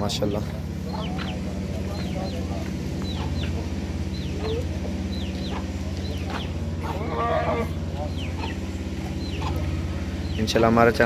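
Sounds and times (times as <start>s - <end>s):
steady low hum: 0.0s - 11.0s
bird chirping: 0.2s - 11.0s.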